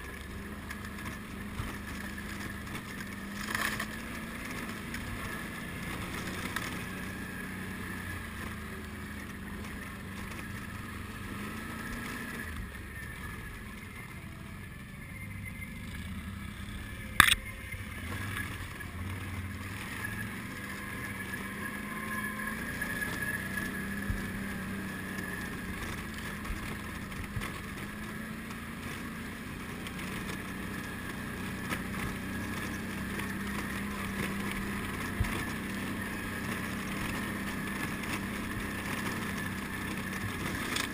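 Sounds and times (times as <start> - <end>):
quad engine running: 0.0 - 40.9.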